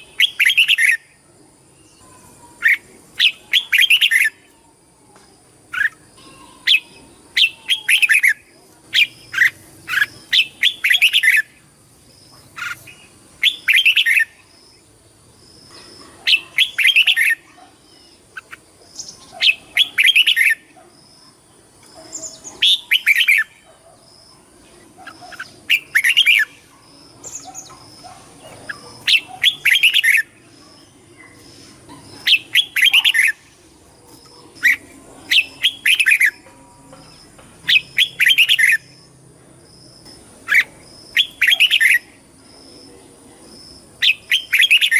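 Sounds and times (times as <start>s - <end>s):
bird singing warbled phrases: 0.0s - 39.2s, 40.0s - 44.9s.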